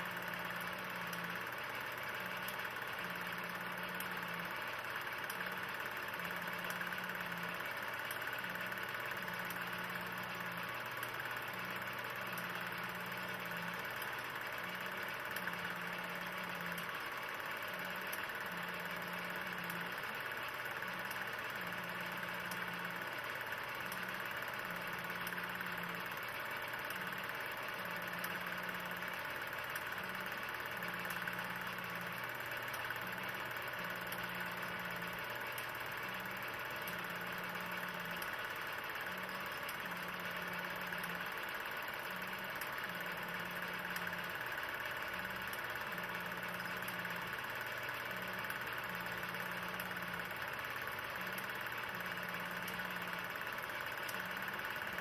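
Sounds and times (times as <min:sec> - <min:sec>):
machine hiss and low hum: 0:00.0 - 0:55.0.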